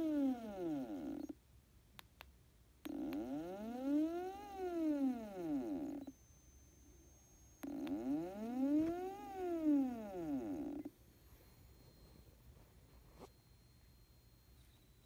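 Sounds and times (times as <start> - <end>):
stepper motor whine: 0.0 - 1.4, 2.9 - 15.0.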